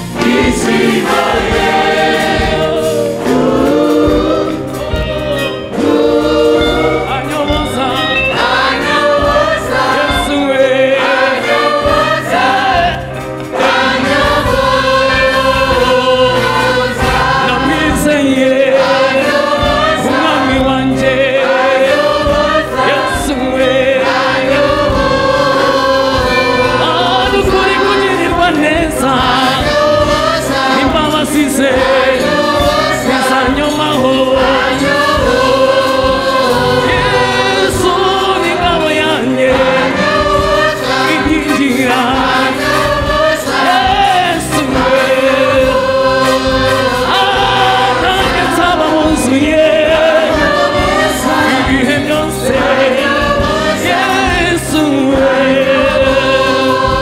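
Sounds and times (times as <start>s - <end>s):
choir singing gospel: 0.0s - 57.0s.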